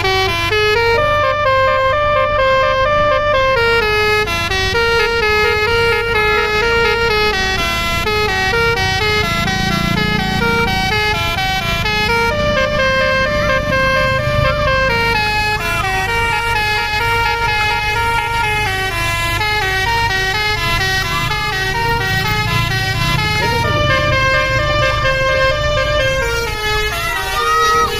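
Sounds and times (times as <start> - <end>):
bus engine rumble: 0.0 - 27.9
musical air horn melody: 0.0 - 27.9.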